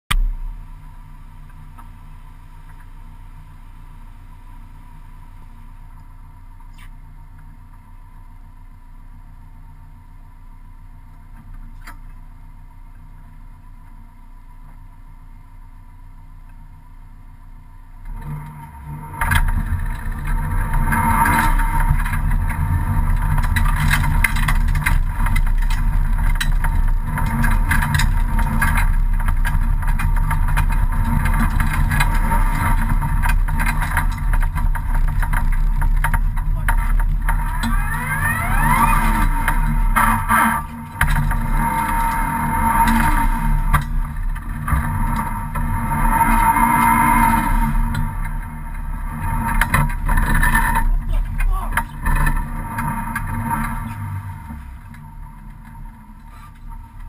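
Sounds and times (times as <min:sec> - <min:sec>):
car engine: 0:00.0 - 0:57.0
road noise and clatter: 0:00.0 - 0:57.0.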